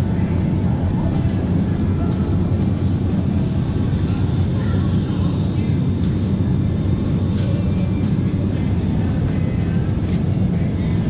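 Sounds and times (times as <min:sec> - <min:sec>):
shopping cart wheels rumbling: 0:00.0 - 0:11.0.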